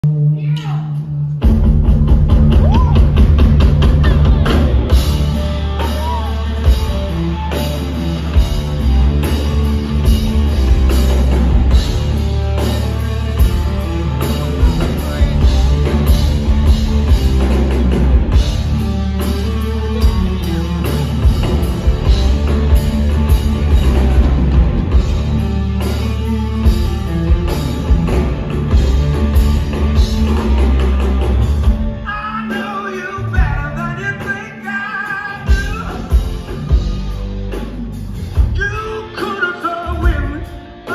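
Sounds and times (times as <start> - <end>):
electric guitar: 0.0 - 40.9
heavy bass: 0.0 - 40.9
rock band playing live: 0.0 - 40.9
drum kit beat: 1.4 - 40.9.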